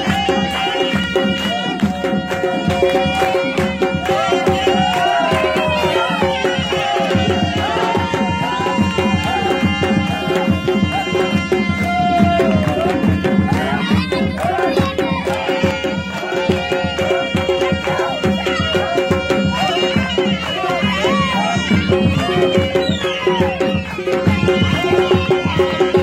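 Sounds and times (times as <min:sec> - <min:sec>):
fast dense drumming: 0:00.0 - 0:26.0.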